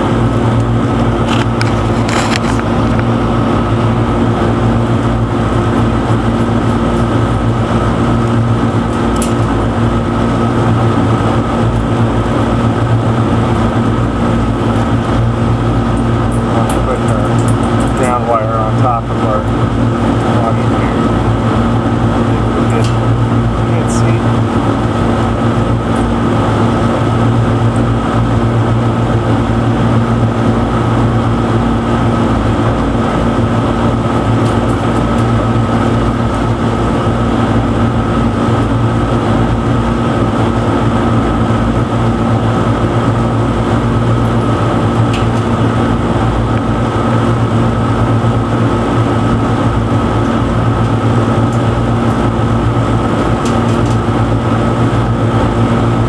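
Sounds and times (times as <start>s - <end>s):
loud machine drone: 0.0s - 56.0s.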